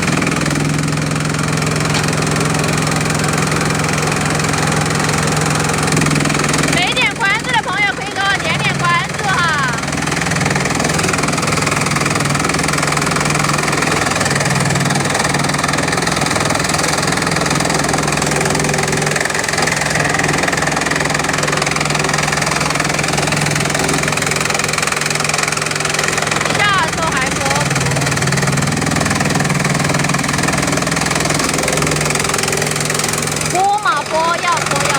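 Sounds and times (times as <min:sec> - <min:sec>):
crushing machine chipping bamboo: 0:00.0 - 0:34.9.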